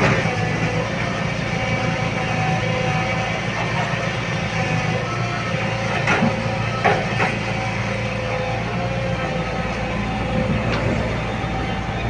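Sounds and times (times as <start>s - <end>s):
excavator diesel engine running: 0.0s - 12.0s
hydraulic whine: 0.0s - 12.0s.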